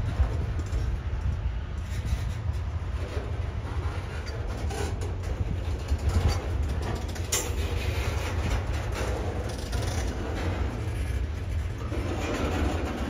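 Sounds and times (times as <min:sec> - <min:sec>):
train rumbling past: 0:00.0 - 0:13.0
wheels clicking over rails: 0:00.0 - 0:13.0.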